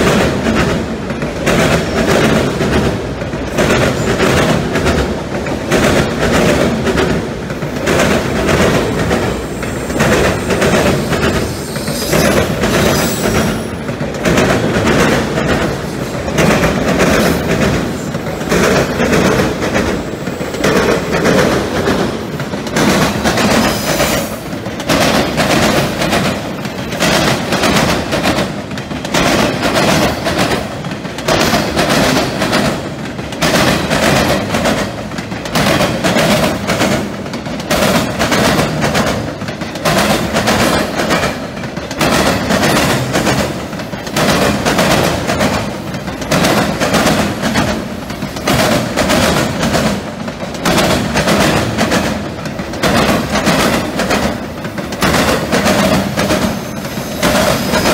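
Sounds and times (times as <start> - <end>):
train rolling rumble: 0.0 - 57.9
train wheels clacking over crossing: 0.0 - 57.9.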